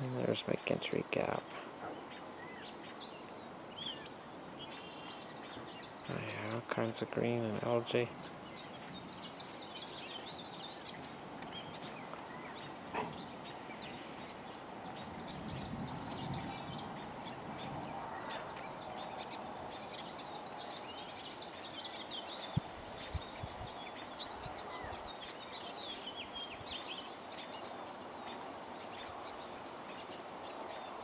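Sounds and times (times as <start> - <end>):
faint chirps: 0.0 - 31.0
insects trilling: 0.0 - 31.0.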